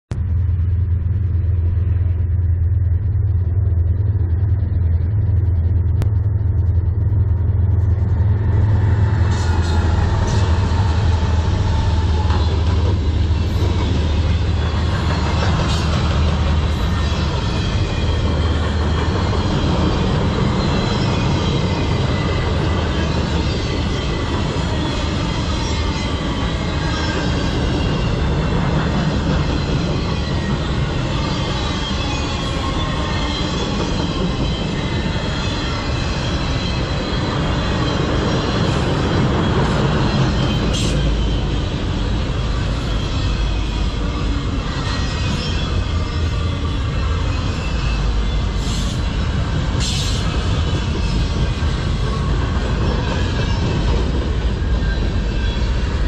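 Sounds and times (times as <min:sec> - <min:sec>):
locomotive engine drone: 0:00.1 - 0:56.0.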